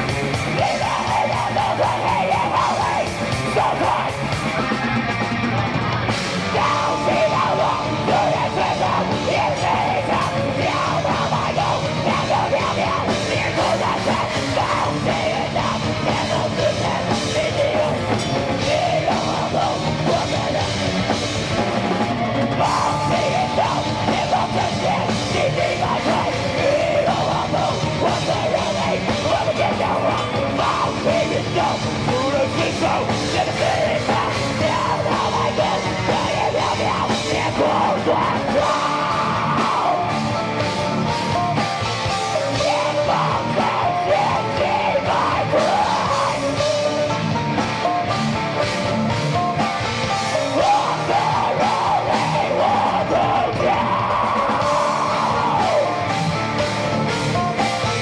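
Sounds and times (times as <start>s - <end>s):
distorted guitars: 0.0s - 58.0s
drum kit: 0.0s - 58.0s
melodic guitar lead line: 0.0s - 58.0s.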